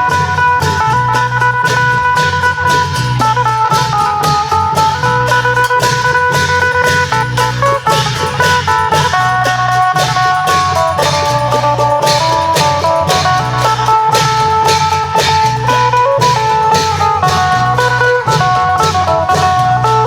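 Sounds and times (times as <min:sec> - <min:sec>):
cymbals: 0:00.0 - 0:20.0
long drums beat: 0:00.0 - 0:20.0
plucked lute melody: 0:00.0 - 0:20.0.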